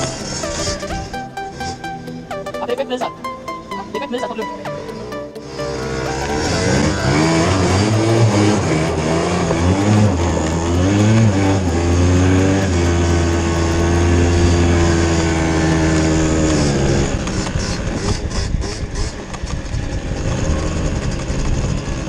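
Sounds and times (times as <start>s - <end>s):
moped engine revving: 0.0s - 22.0s.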